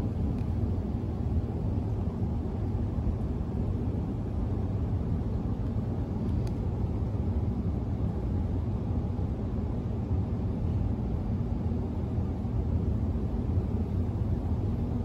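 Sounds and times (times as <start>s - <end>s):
low outdoor background noise: 0.0s - 15.0s.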